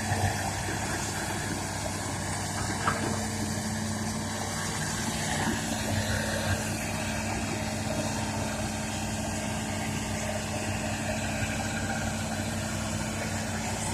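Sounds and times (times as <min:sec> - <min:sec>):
diesel engine running steadily: 0:00.0 - 0:13.9.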